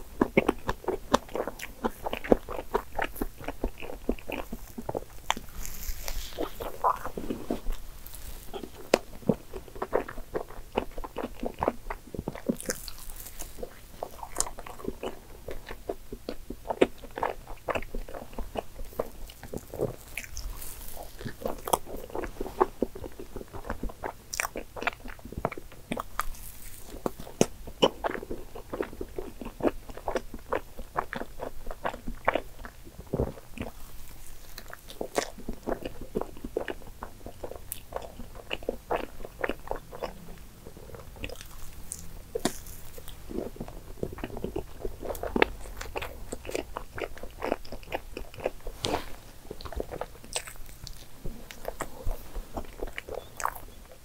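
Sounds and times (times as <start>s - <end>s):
person chewing with wet clicks: 0.0s - 54.0s.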